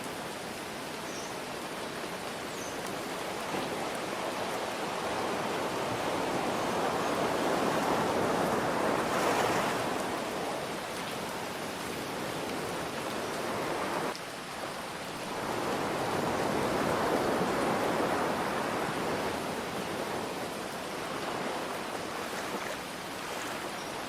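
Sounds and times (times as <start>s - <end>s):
ocean surf waves: 0.0s - 24.0s
rain hiss: 0.0s - 24.0s.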